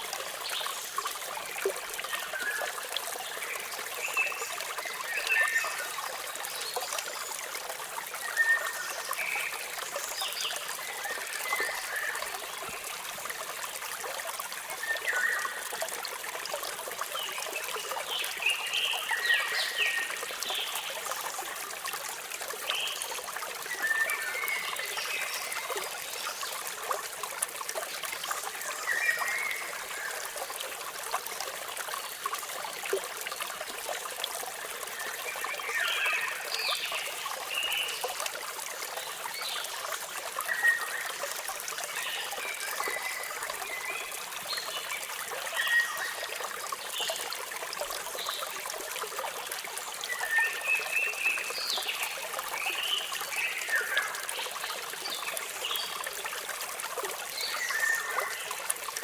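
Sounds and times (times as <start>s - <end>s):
small waterfall running: 0.0s - 59.0s.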